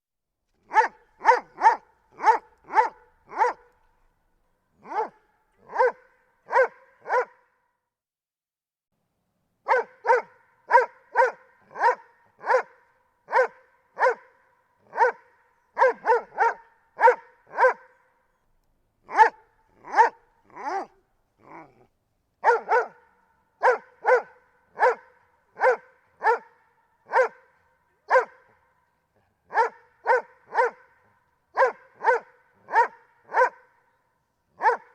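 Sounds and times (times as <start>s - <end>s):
dog barking: 0.6s - 3.8s, 4.8s - 7.6s, 9.6s - 18.2s, 19.0s - 34.9s.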